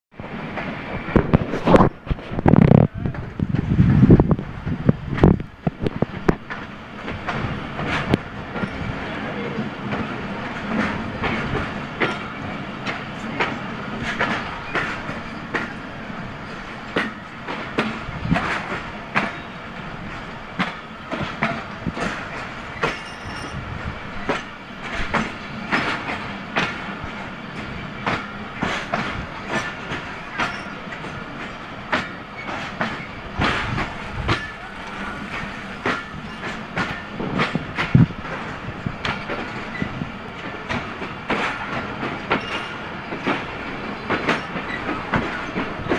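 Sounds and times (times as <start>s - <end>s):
train coaches rolling past: 0.2s - 45.9s
wheel clacks over rail joints: 5.1s - 8.9s, 9.9s - 15.8s, 16.8s - 45.9s.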